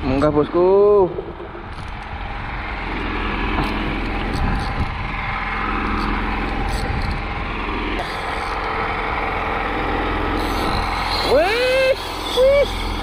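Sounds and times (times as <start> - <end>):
small engine humming: 0.6 - 13.0.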